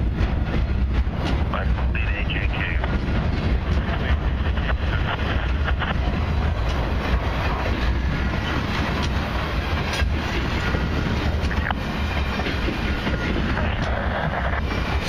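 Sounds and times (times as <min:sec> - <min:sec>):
train wheels rumbling on rails: 0:00.0 - 0:15.0
sharp clicks and clacks: 0:00.1 - 0:15.0.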